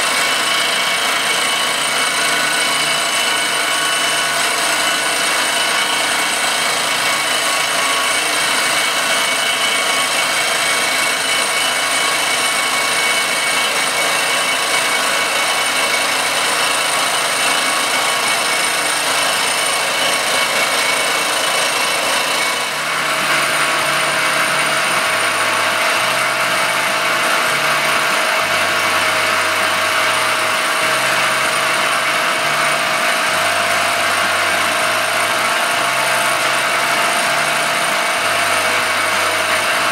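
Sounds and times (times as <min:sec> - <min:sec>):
milling machine whining: 0:00.0 - 0:39.9.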